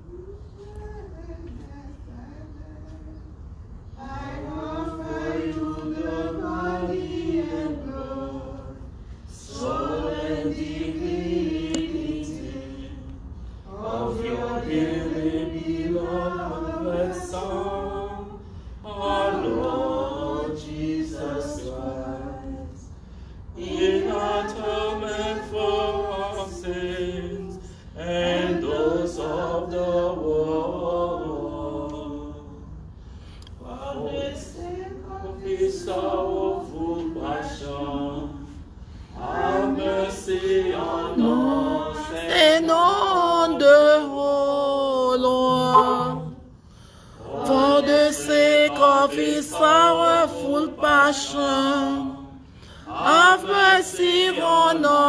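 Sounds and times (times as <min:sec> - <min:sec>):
voices singing a prayer chant: 0:00.0 - 0:55.0.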